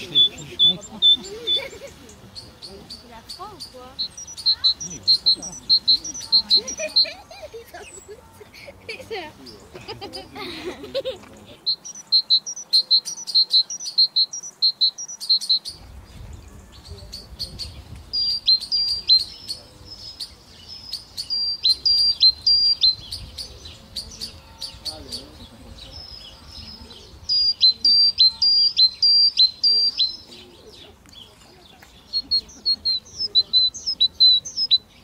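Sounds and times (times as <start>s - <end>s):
small songbirds chirping: 0.0s - 35.0s.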